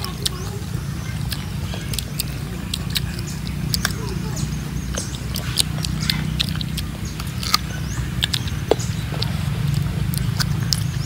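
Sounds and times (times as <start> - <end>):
biting and chewing crisp fruit: 0.0 - 11.0.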